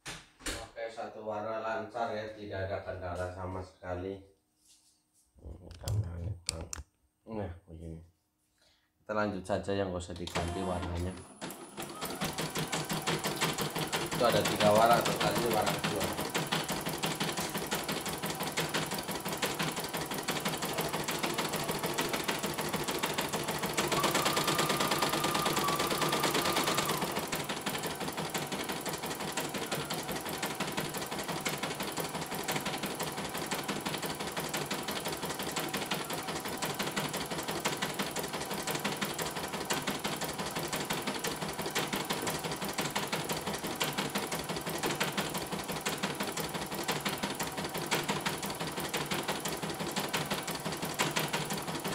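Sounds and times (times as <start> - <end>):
embroidery machine needle clatter: 10.2 - 51.9.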